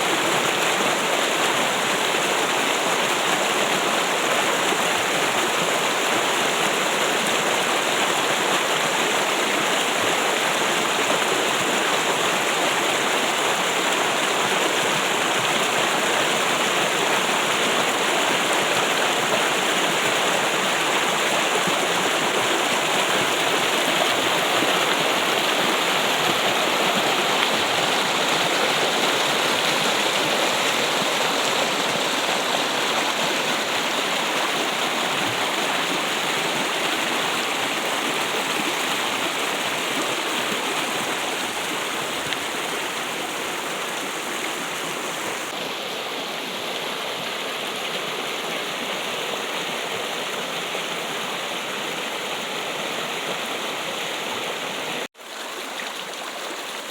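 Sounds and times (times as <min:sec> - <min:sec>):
water trickling and flowing: 0:00.0 - 0:56.9.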